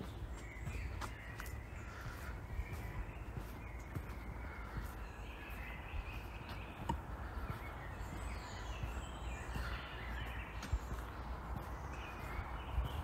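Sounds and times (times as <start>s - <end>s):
birds chirping and singing: 0.0s - 13.0s
footsteps on dirt path: 0.0s - 13.0s.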